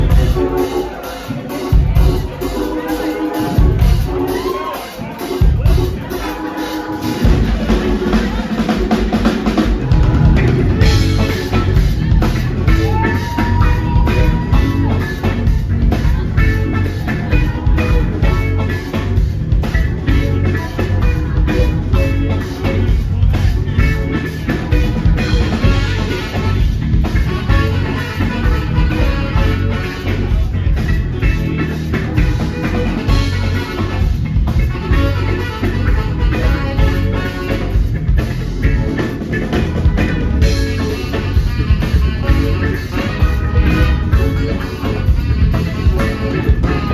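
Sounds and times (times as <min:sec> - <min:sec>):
bass: 0:00.0 - 0:46.9
drum kit: 0:00.0 - 0:46.9
guitar: 0:00.0 - 0:46.9
horns: 0:00.0 - 0:46.9.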